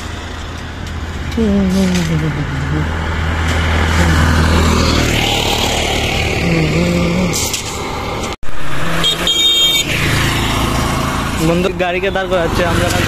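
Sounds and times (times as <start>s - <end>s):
auto-rickshaw engine passing: 0.0s - 13.0s
road noise: 0.0s - 13.0s.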